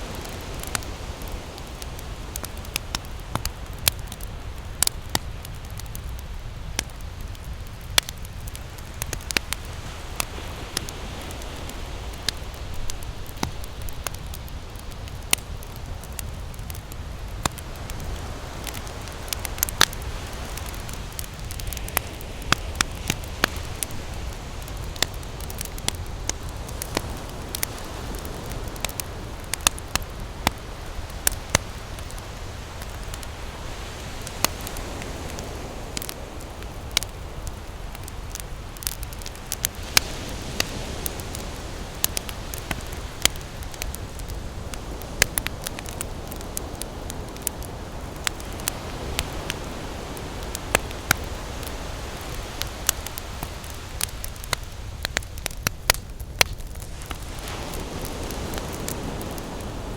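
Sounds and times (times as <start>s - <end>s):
campfire crackling and popping: 0.0s - 59.9s
ocean waves rushing: 8.7s - 16.4s, 17.2s - 55.0s, 56.8s - 59.9s.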